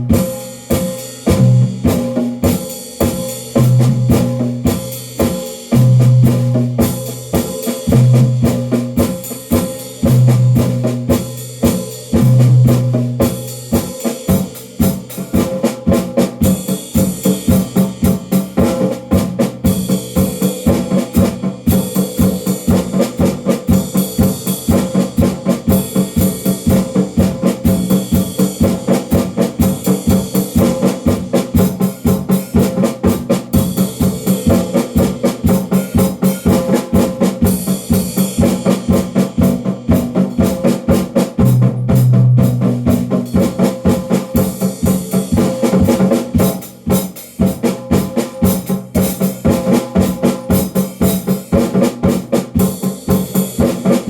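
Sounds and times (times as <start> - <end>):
drum kit playing: 0.0 - 54.0.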